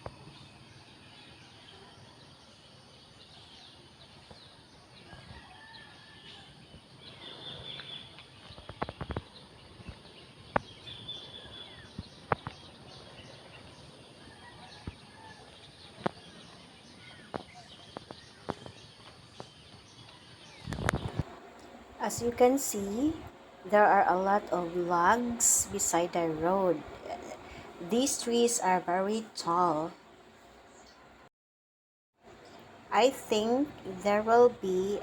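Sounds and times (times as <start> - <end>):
light background noise: 0.0 - 31.3, 32.2 - 35.0.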